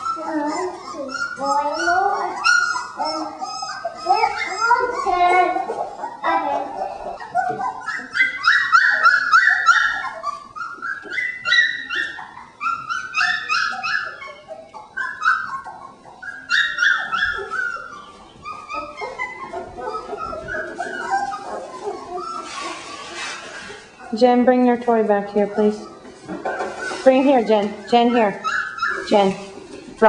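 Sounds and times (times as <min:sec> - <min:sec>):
puppies whining and yipping: 0:00.0 - 0:30.0.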